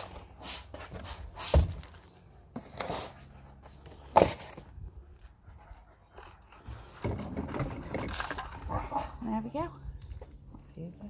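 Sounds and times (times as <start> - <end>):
handling and rustling: 0.0 - 9.2.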